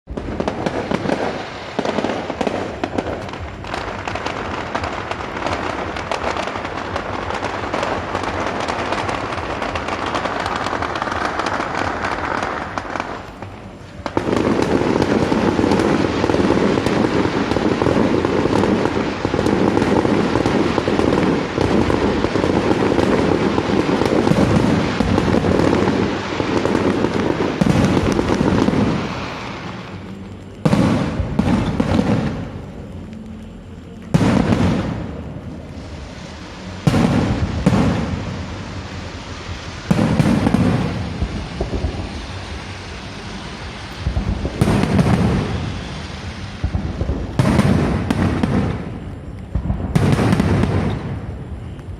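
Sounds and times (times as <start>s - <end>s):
fireworks crackling and banging: 0.0s - 51.9s.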